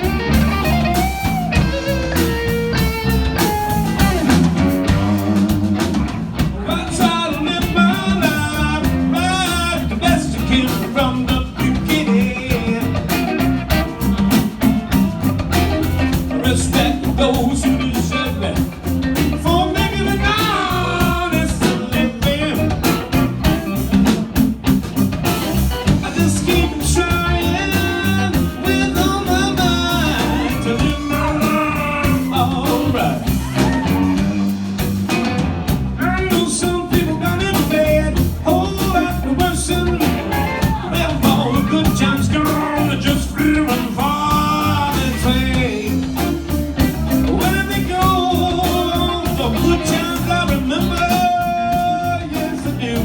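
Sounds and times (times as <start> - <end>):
bass and drums: 0.0 - 53.0
electric guitar bent notes: 0.0 - 53.0.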